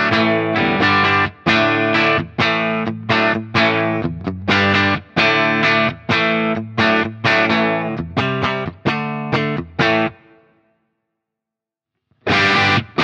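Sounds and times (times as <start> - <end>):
driven electric guitar chord stabs: 0.0 - 10.5, 12.2 - 13.0.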